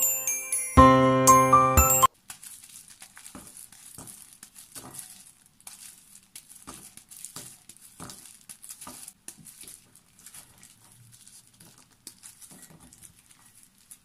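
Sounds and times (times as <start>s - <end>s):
plastic gloves crinkling: 2.1s - 14.0s.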